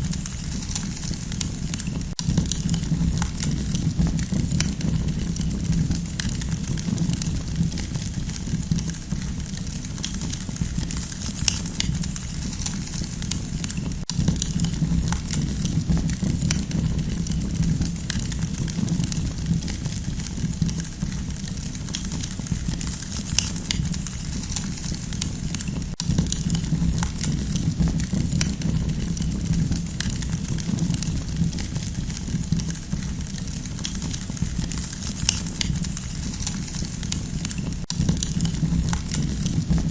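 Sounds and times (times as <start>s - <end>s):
campfire low rumble: 0.0s - 39.9s
wood crackling and popping: 0.0s - 39.9s.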